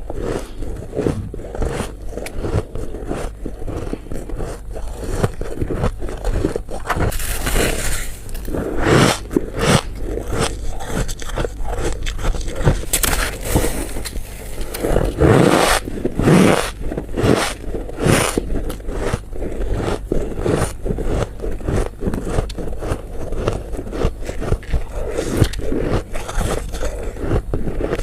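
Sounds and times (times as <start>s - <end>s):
crunching and chewing ice: 0.0s - 28.0s.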